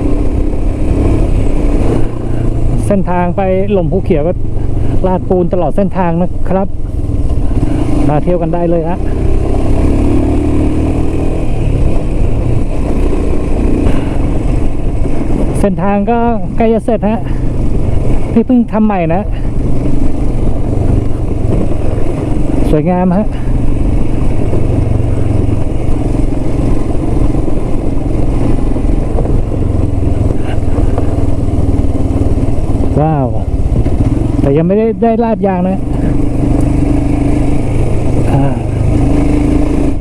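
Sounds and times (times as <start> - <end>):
motorcycle engine running: 0.0 - 40.0
wind and road noise: 0.0 - 40.0.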